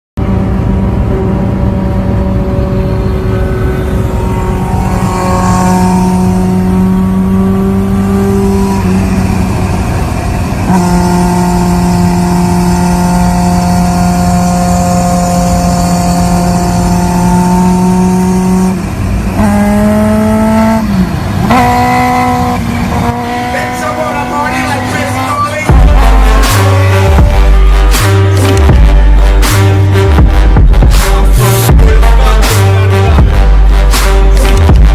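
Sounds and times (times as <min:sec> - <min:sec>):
engine running at high revs: 0:00.2 - 0:34.9.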